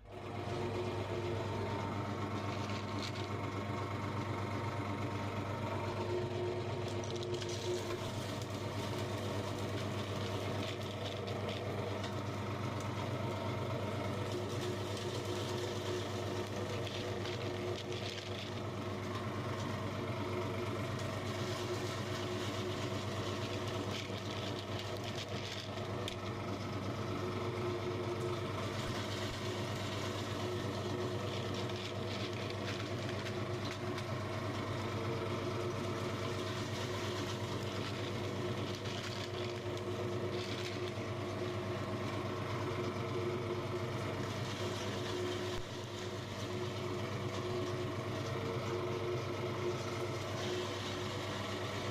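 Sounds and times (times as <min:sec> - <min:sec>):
meat grinder motor humming: 0:00.0 - 0:51.9
candy crunching and crackling: 0:00.2 - 0:51.9.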